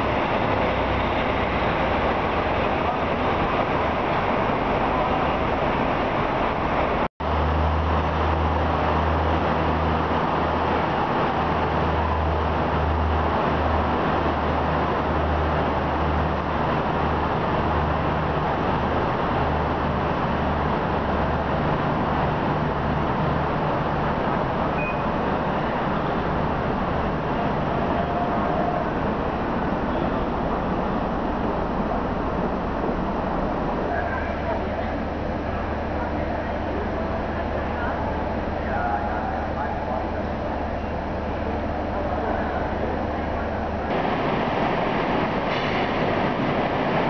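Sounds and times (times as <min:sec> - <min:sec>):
diesel trains idling: 0:00.0 - 0:47.0.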